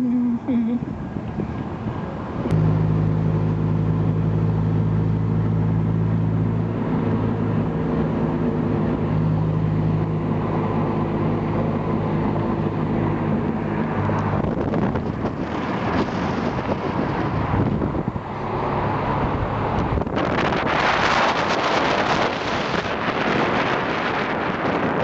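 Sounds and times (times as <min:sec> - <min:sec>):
engine humming steadily: 0:00.0 - 0:25.0.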